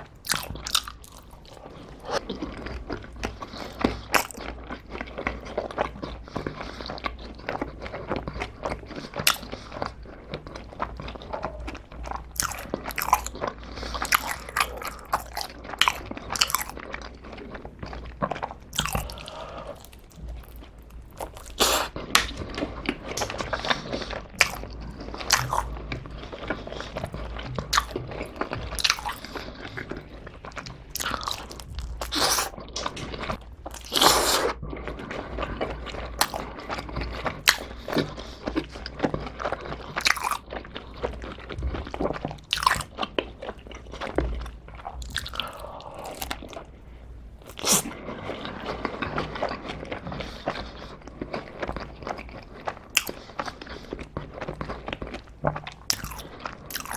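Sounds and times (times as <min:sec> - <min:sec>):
biting and chewing pizza: 0:00.0 - 0:46.8, 0:47.4 - 0:56.9.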